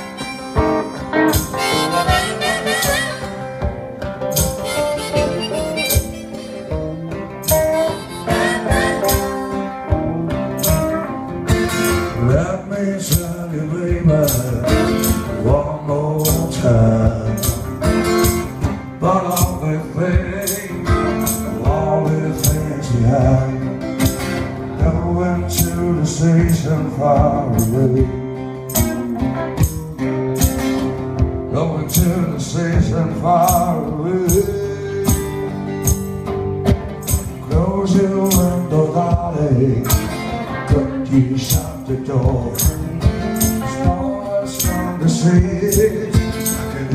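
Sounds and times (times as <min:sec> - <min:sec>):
man singing: 0:00.0 - 0:03.6, 0:07.8 - 0:09.8, 0:11.7 - 0:29.6, 0:31.5 - 0:35.9, 0:37.2 - 0:46.9
percussive beat: 0:00.0 - 0:46.9
strummed acoustic guitar: 0:00.0 - 0:46.9.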